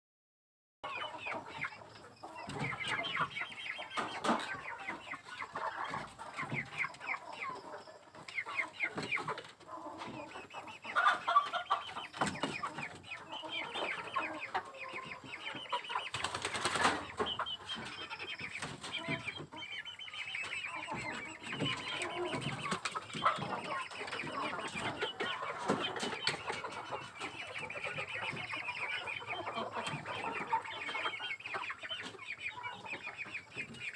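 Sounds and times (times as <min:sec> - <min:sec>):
chickens clucking: 0:00.8 - 0:33.9.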